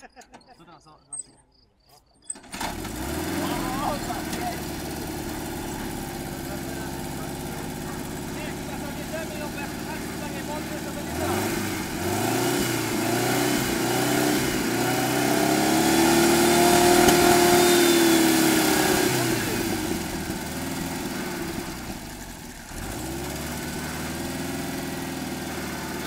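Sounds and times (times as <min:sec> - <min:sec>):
pump engine revving and idling: 0:02.3 - 0:26.0.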